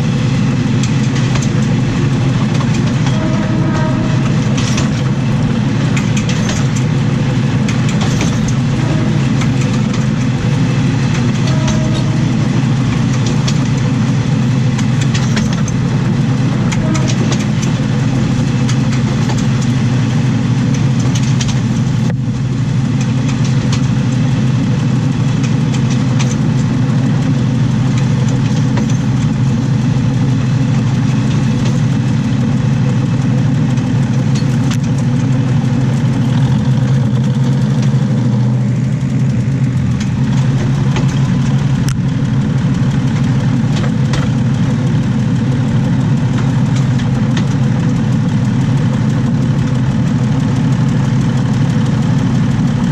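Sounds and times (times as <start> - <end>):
railcar engine drone: 0.0 - 52.9
wheels rolling on rails: 0.0 - 52.9.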